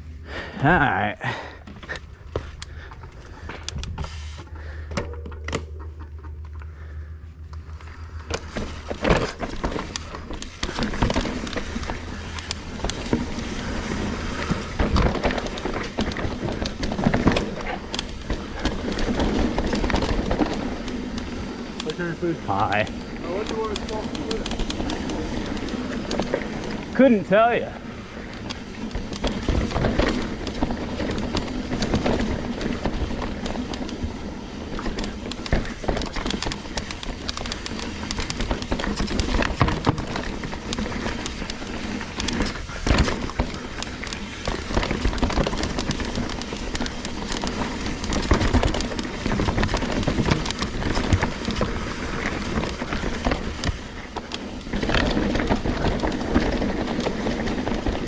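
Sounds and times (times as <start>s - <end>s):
bike knocking and rattling: 0.0s - 58.0s
rush of tyres and wind: 7.4s - 58.0s.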